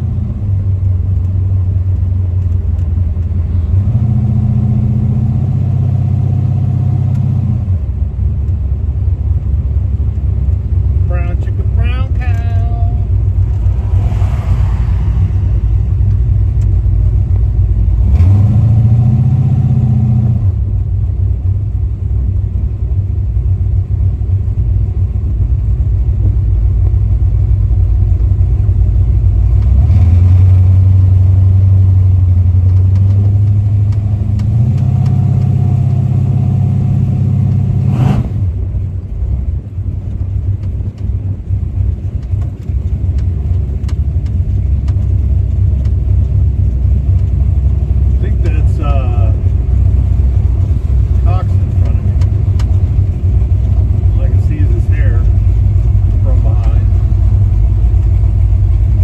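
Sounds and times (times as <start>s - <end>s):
pickup truck engine rumbling: 0.0s - 59.0s.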